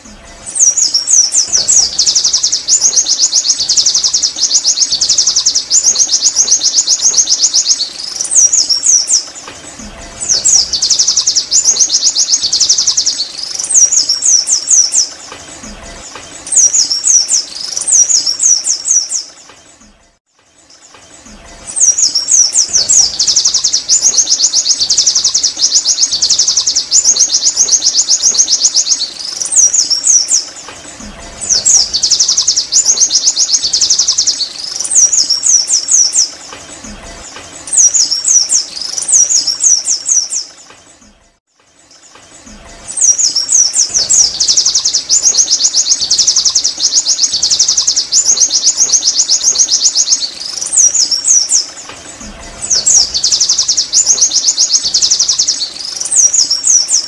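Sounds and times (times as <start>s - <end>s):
bird high-pitched twittering song: 0.0s - 57.0s.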